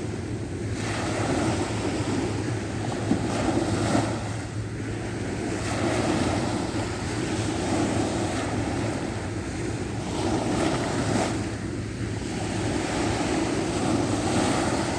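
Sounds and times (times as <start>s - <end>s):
sea waves washing onto shore: 0.0s - 14.9s
steady low hum: 0.0s - 14.9s
wind buffeting microphone: 0.0s - 14.9s.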